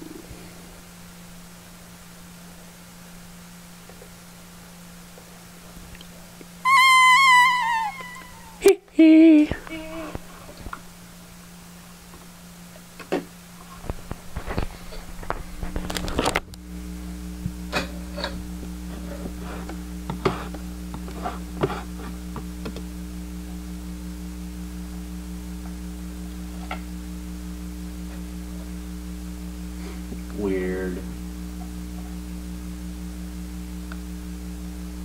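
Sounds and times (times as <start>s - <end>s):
steady low hum with tones: 0.0s - 35.0s.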